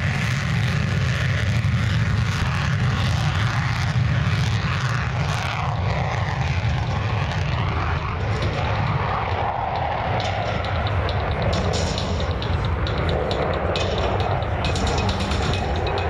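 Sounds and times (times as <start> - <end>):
jet engine roaring at high power: 0.0 - 16.0.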